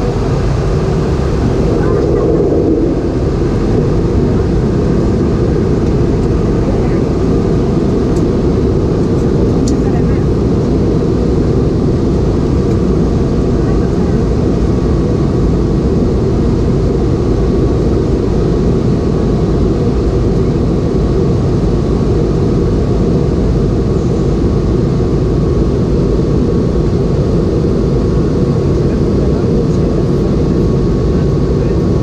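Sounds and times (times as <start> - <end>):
airplane cabin engine noise: 0.0 - 32.0.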